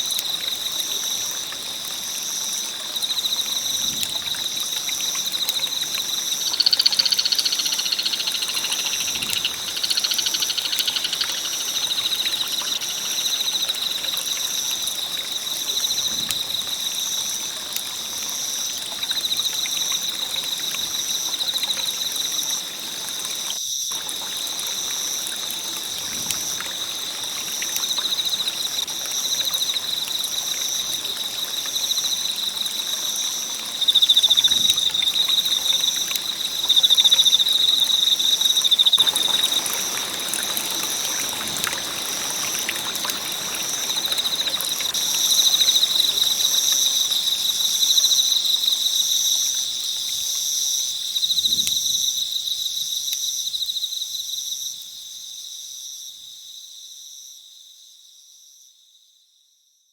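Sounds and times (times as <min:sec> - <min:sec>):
campfire crackling: 0:00.0 - 0:48.9
crickets chirping: 0:00.0 - 0:59.2.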